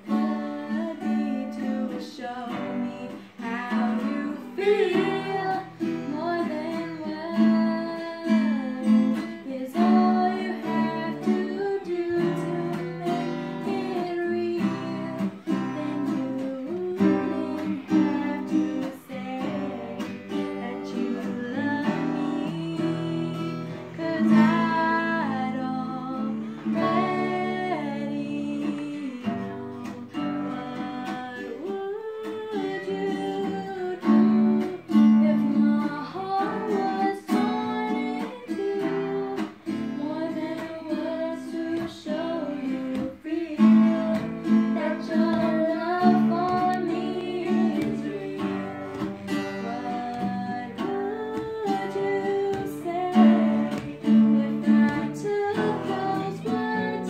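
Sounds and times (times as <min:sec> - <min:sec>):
acoustic guitars strummed and picked: 0:00.0 - 0:57.0
young woman singing a ballad: 0:00.0 - 0:57.0.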